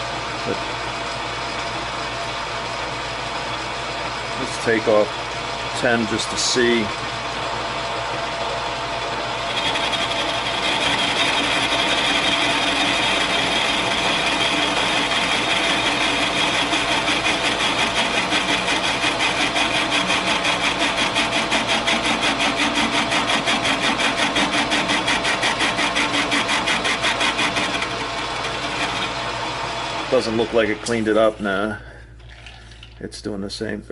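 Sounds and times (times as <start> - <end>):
metal lathe cutting steel: 4.4 - 31.6.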